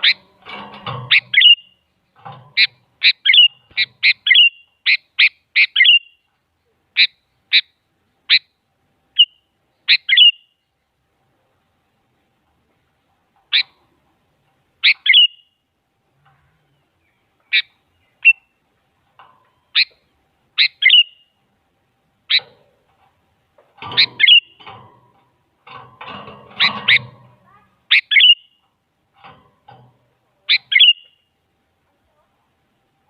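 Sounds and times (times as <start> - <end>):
low rough noise: 0.0 - 5.6, 6.2 - 33.0.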